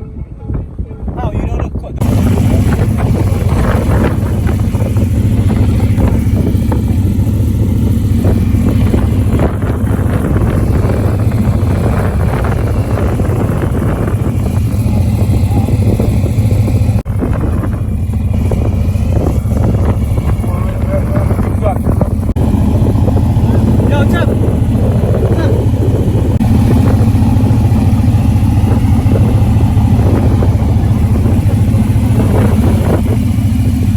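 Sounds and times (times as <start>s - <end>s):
car engine and road drone: 0.0s - 33.9s.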